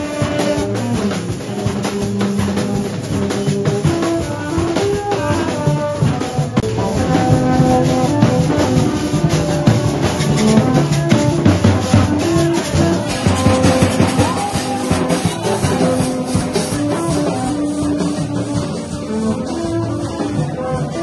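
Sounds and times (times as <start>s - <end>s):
brass horns playing notes: 0.0s - 21.0s
marching drum beating: 0.0s - 21.0s.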